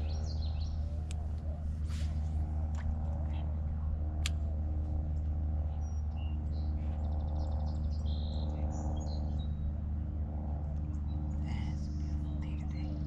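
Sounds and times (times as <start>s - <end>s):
songbirds chirping: 0.0s - 3.7s, 4.3s - 10.0s, 10.7s - 13.0s
steady low hum: 0.0s - 13.0s.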